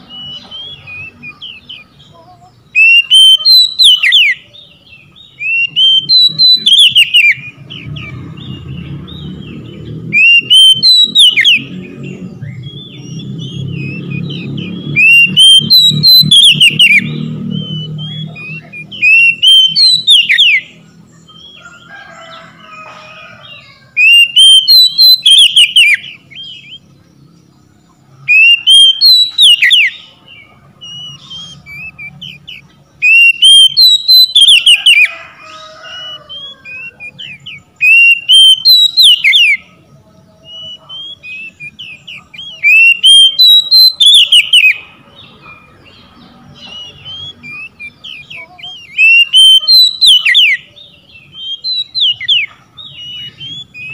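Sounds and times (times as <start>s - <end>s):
bird singing whistled phrases: 0.0s - 2.1s, 2.7s - 21.6s, 23.9s - 26.9s, 28.2s - 30.2s, 30.8s - 35.1s, 36.0s - 39.7s, 40.4s - 44.8s, 46.5s - 53.9s.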